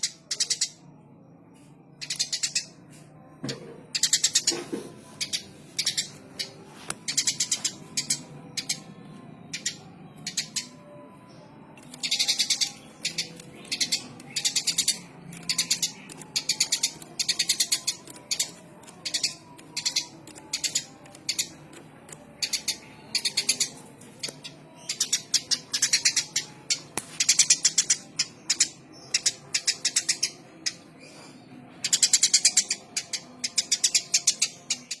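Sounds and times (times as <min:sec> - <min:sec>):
sparrow chirping: 0:00.0 - 0:00.8, 0:02.0 - 0:02.8, 0:05.2 - 0:08.9, 0:09.5 - 0:35.0.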